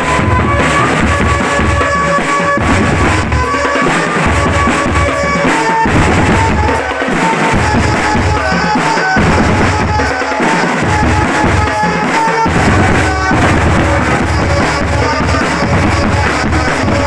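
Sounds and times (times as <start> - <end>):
bass and snare drums beating: 0.0 - 17.0.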